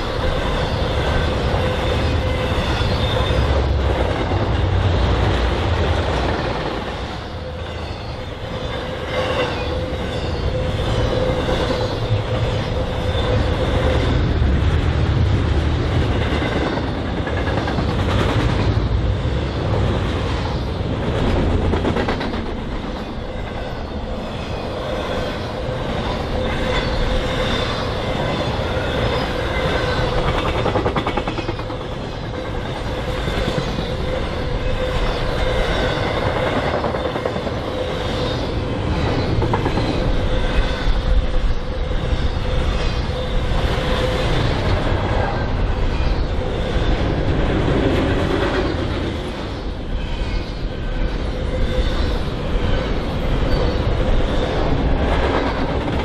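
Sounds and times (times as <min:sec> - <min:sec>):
freight train cars rumbling: 0:00.0 - 0:56.0.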